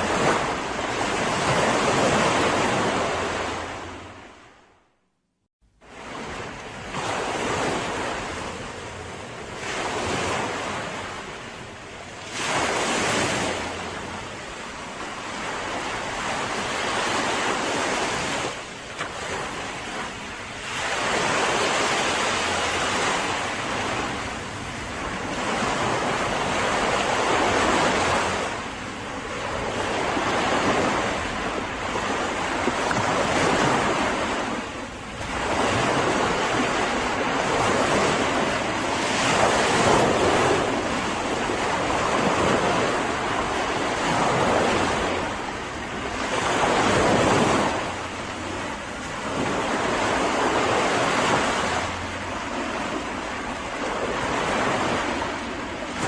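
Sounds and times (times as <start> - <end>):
sea waves breaking on a beach: 0.0 - 4.8, 5.7 - 56.0
wind on microphone: 5.8 - 56.0.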